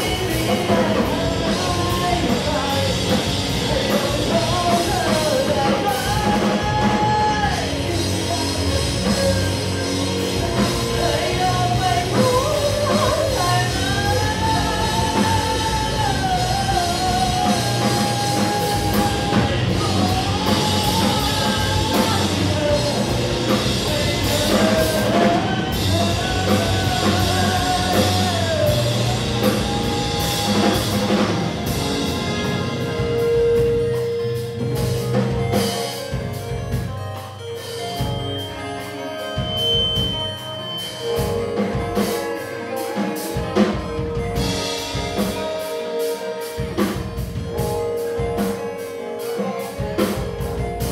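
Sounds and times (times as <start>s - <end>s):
person singing: 0.0s - 50.9s
post-hardcore band playing: 0.0s - 50.9s.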